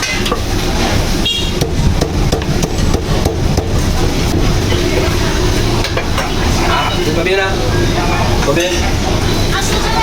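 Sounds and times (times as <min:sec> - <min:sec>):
market bustle: 0:00.0 - 0:10.0.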